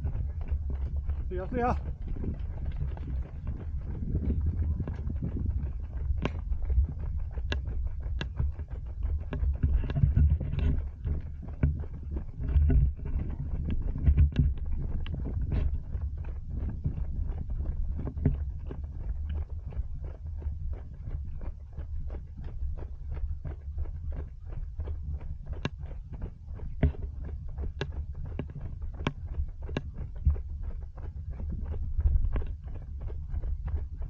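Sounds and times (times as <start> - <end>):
low wind rumble: 0.0 - 34.0
running footsteps: 0.0 - 34.0.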